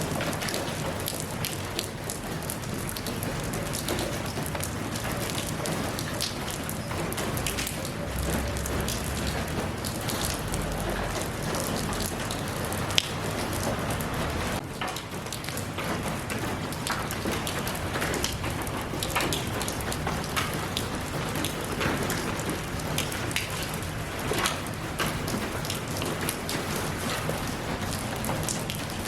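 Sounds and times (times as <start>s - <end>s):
rain drops pattering on hard surface: 0.0s - 29.0s.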